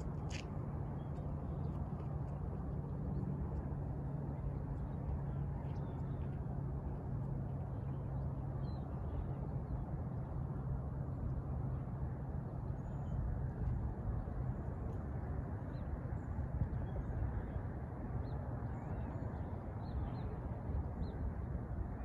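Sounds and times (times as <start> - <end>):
faint constant hum: 0.0 - 22.0
low outdoor rumble: 0.0 - 22.0.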